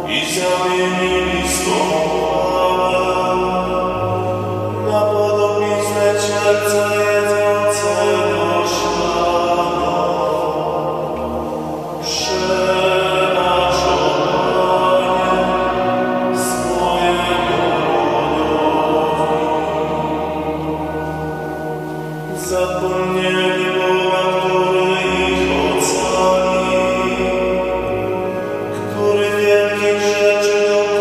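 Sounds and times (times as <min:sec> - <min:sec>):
man singing slow chant-like melody: 0:00.0 - 0:21.6, 0:22.2 - 0:31.0.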